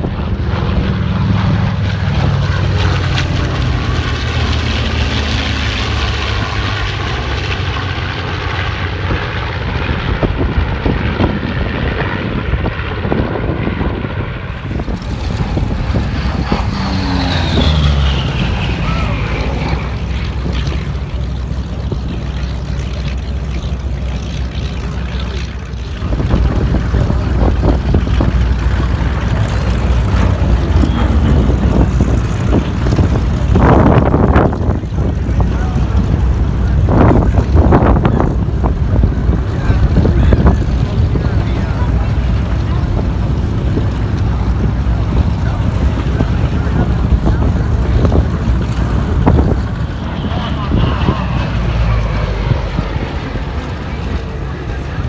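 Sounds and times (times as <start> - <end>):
propeller planes passing low: 0.0 - 55.0.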